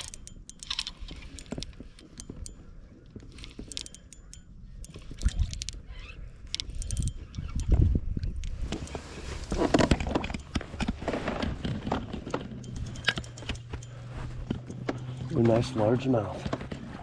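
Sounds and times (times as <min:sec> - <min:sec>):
fishing tackle clicking and rattling: 0:00.0 - 0:16.9.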